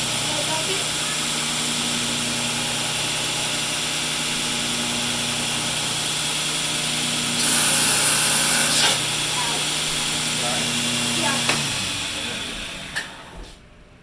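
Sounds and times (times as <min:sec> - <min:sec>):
machine motor hum with hiss: 0:00.0 - 0:13.6.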